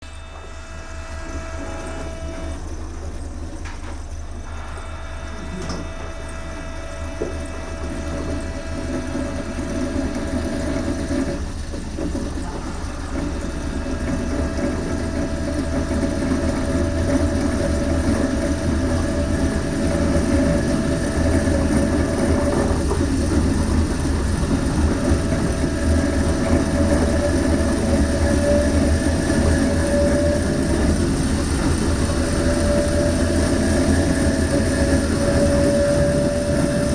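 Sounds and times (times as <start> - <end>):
train motors whining: 0.0 - 36.9.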